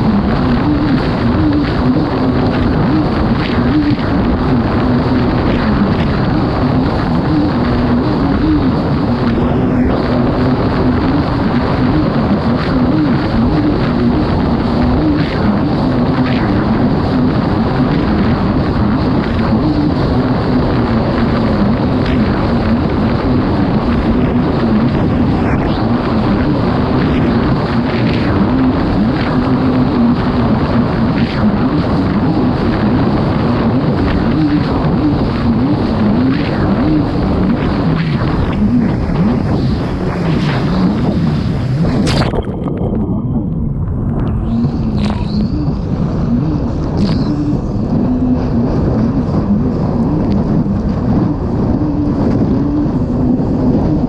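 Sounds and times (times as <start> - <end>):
jet ski engine running: 0.0 - 54.0
wind and water rushing: 0.0 - 54.0.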